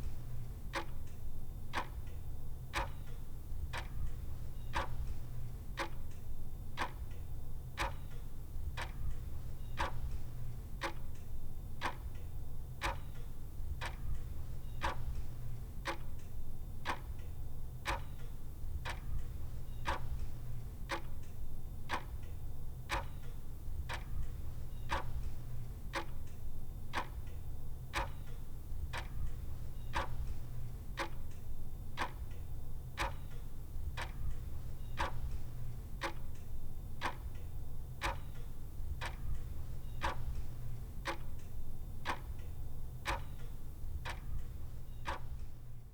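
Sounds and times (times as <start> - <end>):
mechanical clock ticking: 0.7 - 7.2, 7.8 - 45.9.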